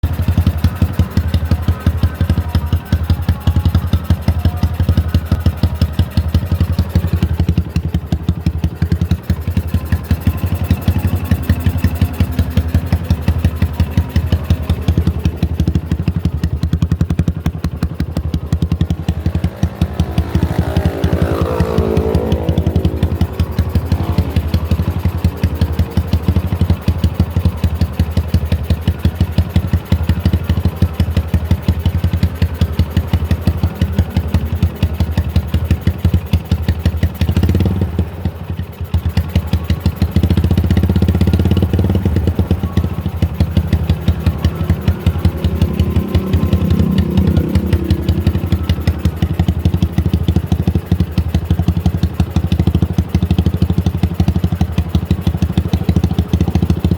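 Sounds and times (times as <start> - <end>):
motorcycle engine pulsing exhaust: 0.0 - 56.9.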